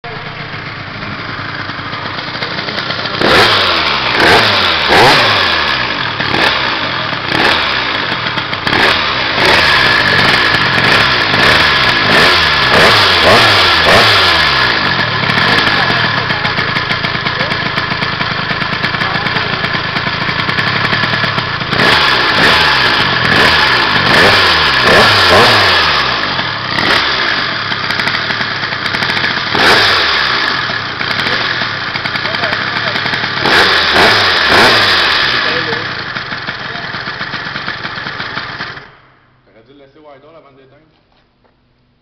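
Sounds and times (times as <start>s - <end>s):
two-stroke scooter engine revving: 0.0s - 39.1s.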